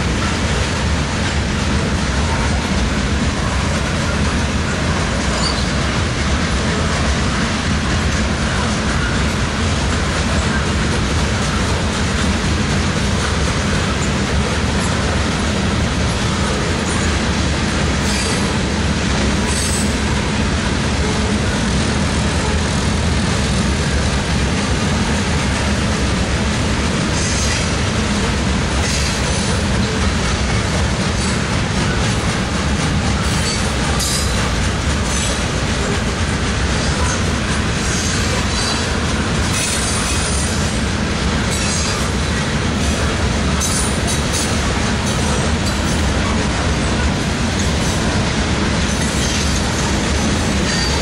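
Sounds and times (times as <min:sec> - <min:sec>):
steel wheels rumbling on rail: 0:00.0 - 0:51.0.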